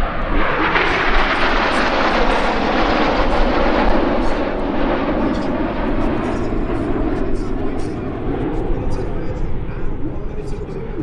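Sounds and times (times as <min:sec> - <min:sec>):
jets roaring overhead: 0:00.0 - 0:11.0.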